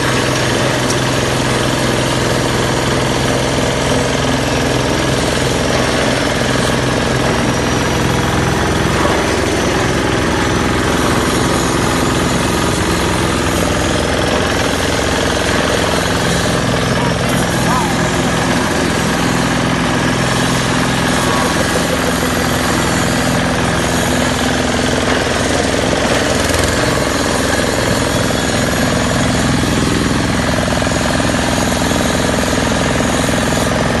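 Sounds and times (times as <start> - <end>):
shredder whirring and rattling: 0.0 - 34.0.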